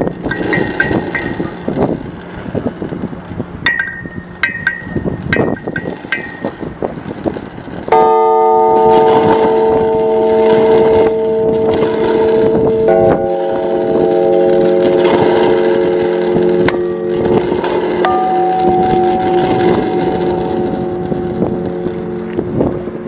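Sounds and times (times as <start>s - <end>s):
large bell ringing loudly: 0.0s - 1.8s, 3.7s - 6.7s, 7.9s - 23.0s.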